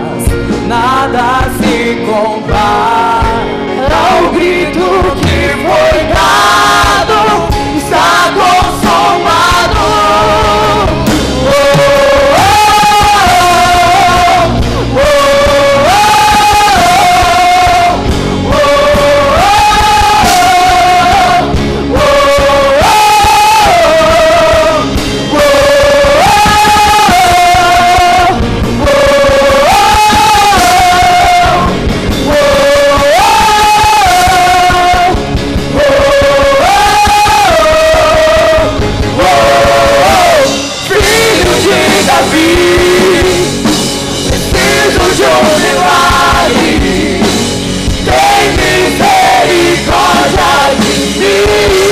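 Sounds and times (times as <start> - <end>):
drums and cymbals: 0.0 - 51.9
guitars: 0.0 - 51.9
rock band playing: 0.0 - 51.9.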